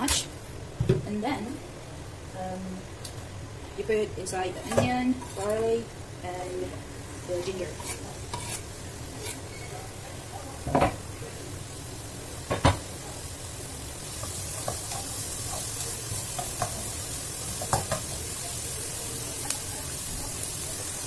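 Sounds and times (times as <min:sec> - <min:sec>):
food sizzling in oil: 0:02.1 - 0:21.0.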